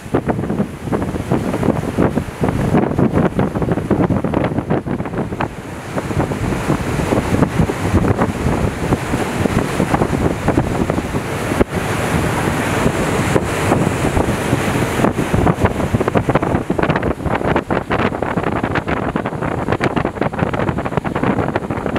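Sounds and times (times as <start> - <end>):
choppy sea: 0.0 - 21.9
hydrofoil rushing at high speed: 0.0 - 21.9
wind buffeting microphone: 0.0 - 21.9.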